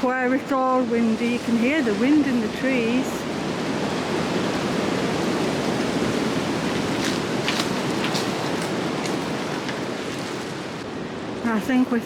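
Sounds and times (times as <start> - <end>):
wind through trees: 0.0 - 12.0.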